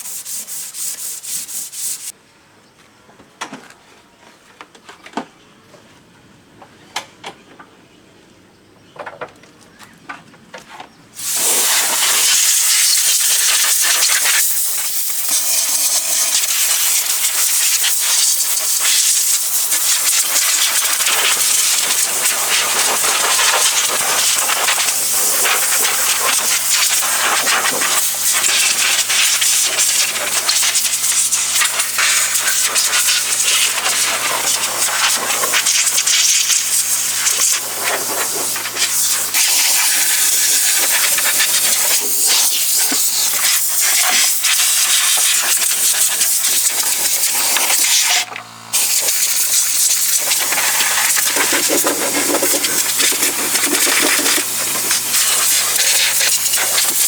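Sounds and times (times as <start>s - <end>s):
loud steady hiss: 0.0s - 2.1s, 11.2s - 57.0s.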